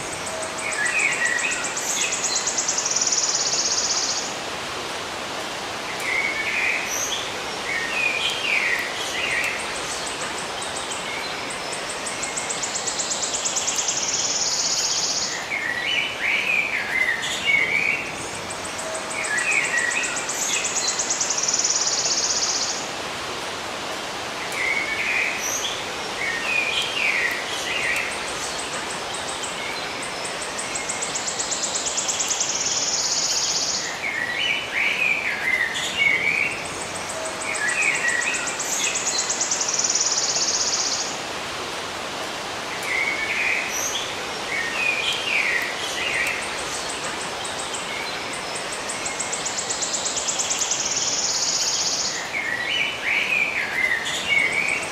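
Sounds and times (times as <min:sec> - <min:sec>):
background hiss: 0:00.0 - 0:54.9
songbirds chirping: 0:00.0 - 0:54.9.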